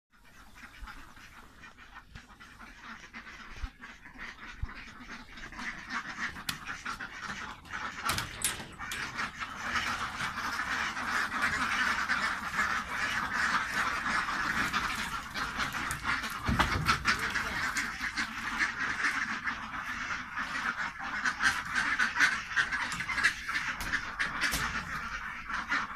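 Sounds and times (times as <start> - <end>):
ducks quacking: 0.2 - 25.9.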